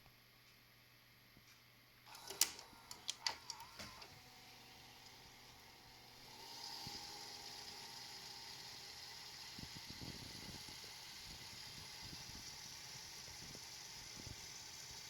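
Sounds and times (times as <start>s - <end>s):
tape mechanism whirring: 2.1s - 15.0s.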